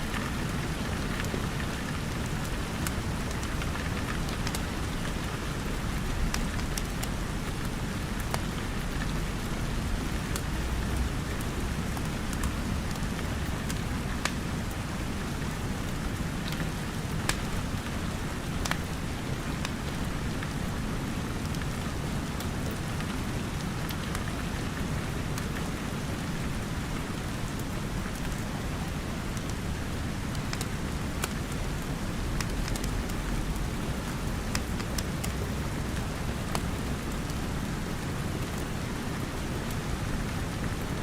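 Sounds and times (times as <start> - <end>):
wood fire popping and crackling: 0.0 - 20.4, 26.8 - 41.0
rain falling: 0.0 - 41.0.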